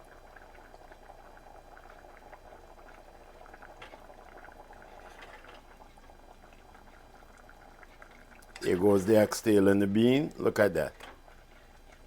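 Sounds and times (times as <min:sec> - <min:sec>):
stew bubbling with small pops: 0:00.0 - 0:12.0.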